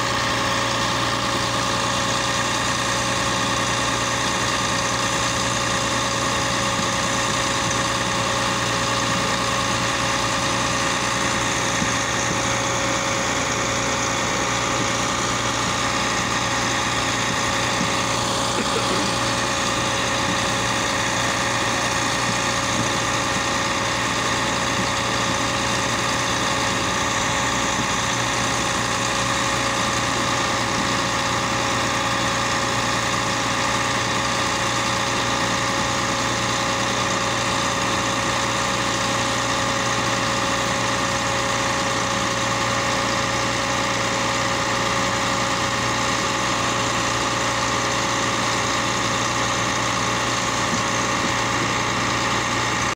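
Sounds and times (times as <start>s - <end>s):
baler machinery engine drone: 0.0s - 52.9s.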